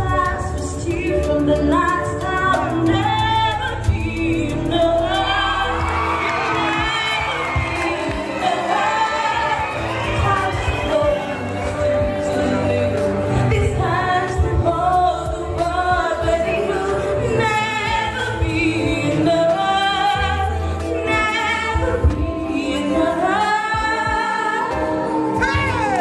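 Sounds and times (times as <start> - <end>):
amplified backing music: 0.0 - 26.0
woman singing into a microphone: 0.0 - 26.0.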